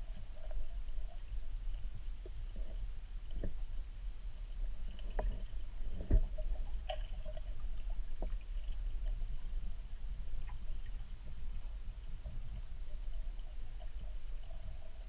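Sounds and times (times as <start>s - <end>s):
small underwater clicks and knocks: 0.0s - 3.9s, 4.5s - 15.0s
muffled underwater current rumble: 0.0s - 15.0s.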